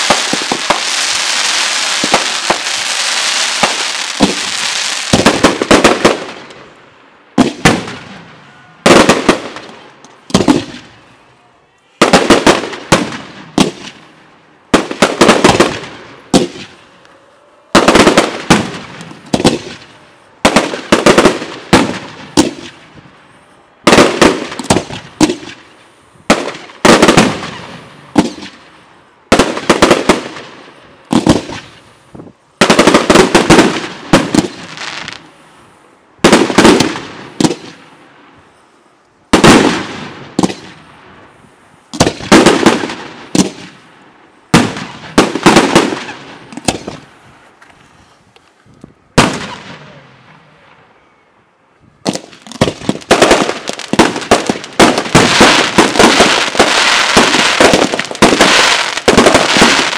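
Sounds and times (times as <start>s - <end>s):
fireworks bangs: 0.0s - 35.5s, 36.2s - 38.3s, 39.3s - 48.1s, 49.0s - 51.0s, 52.0s - 59.9s
echo of fireworks: 0.0s - 59.9s.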